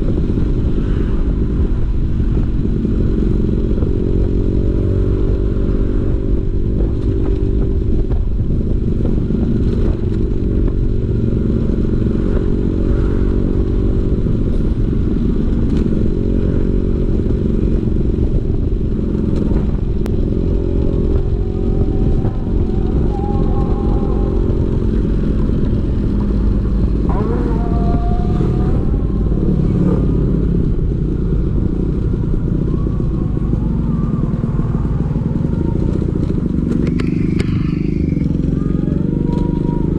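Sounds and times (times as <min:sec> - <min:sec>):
scooter two-stroke engine exhaust: 0:00.0 - 0:39.9.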